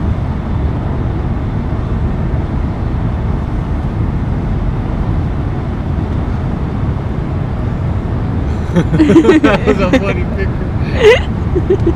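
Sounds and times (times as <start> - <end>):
car road noise at highway speed: 0.0 - 11.9.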